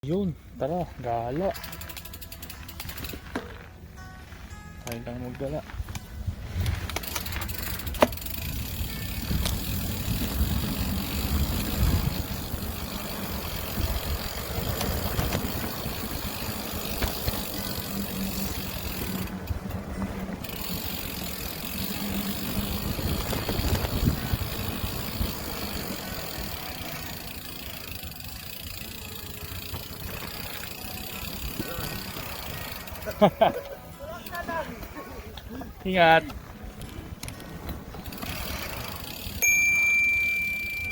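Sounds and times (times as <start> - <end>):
bicycle riding rumble: 0.0 - 40.9
road traffic noise: 0.0 - 40.9.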